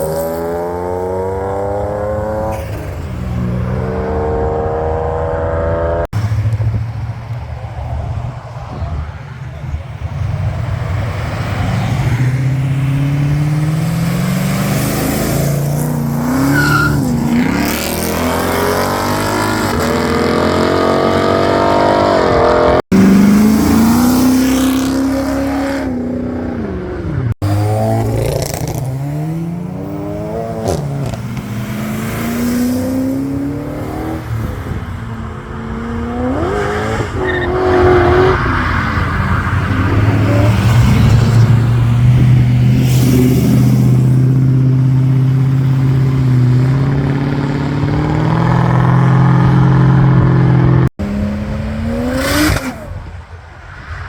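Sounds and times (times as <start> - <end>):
car engines accelerating hard: 0.0 - 54.0.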